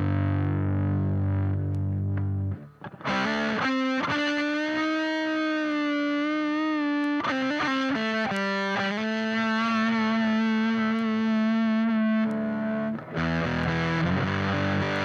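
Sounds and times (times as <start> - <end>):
fuzz-distorted electric guitar: 0.0 - 15.0.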